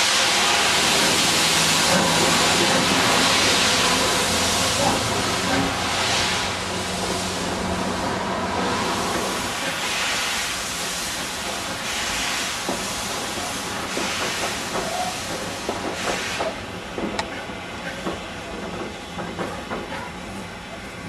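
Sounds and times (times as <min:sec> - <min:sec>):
steam locomotive hissing beats: 0:00.0 - 0:17.2.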